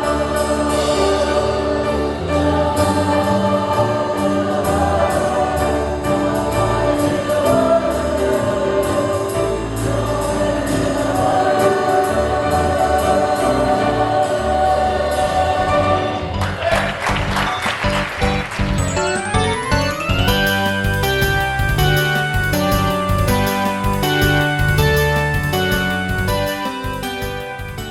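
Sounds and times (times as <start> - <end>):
choir singing with instruments: 0.0 - 17.8, 20.3 - 27.9.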